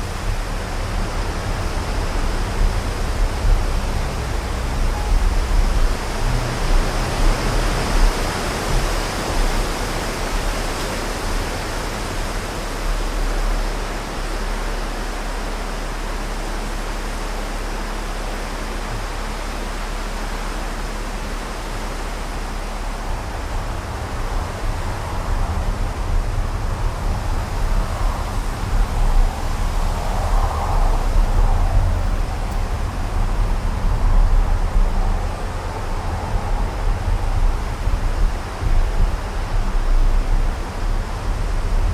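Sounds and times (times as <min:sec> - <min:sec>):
gusty wind buffeting microphone: 0:00.0 - 0:41.9.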